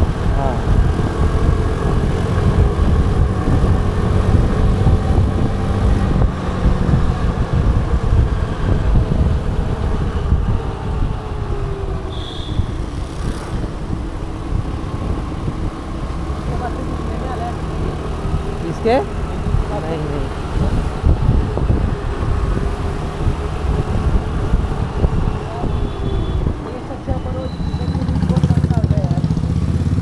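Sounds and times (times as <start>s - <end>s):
vehicle engine and traffic: 0.0s - 30.0s.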